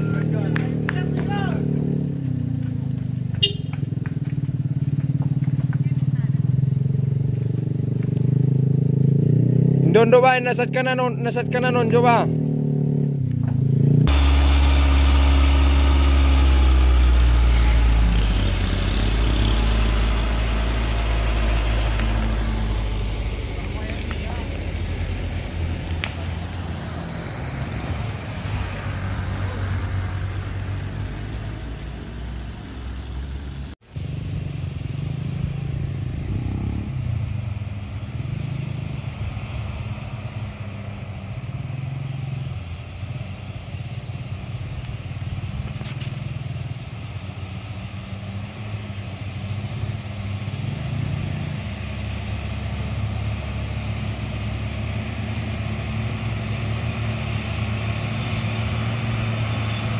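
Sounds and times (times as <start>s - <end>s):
diesel truck engine climbing: 0.0s - 59.9s.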